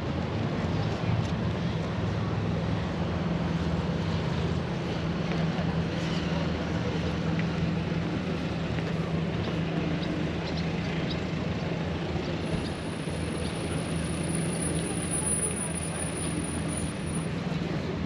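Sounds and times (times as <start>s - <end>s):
low engine hum: 0.0s - 18.0s
outdoor noise: 0.0s - 18.0s.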